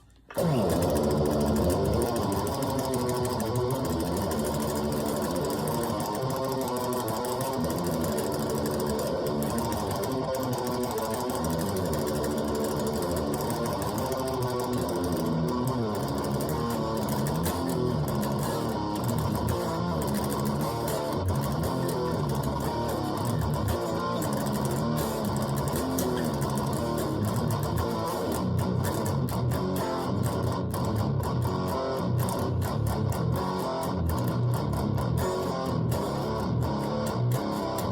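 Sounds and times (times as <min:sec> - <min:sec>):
guitar playing: 0:00.0 - 0:37.9.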